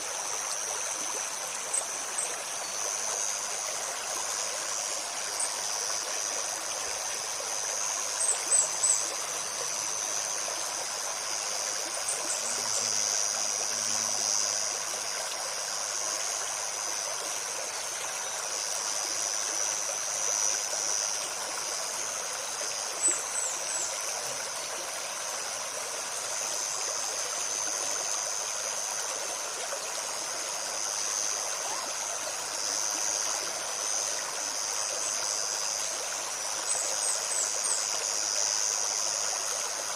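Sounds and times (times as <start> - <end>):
forest stream babbling: 0.0 - 39.9
high insect drone: 0.0 - 39.9.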